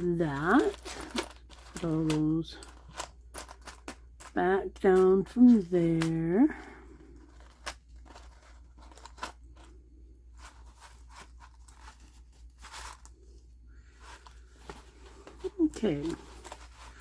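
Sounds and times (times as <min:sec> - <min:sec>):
paper and card rustling: 0:00.0 - 0:17.0.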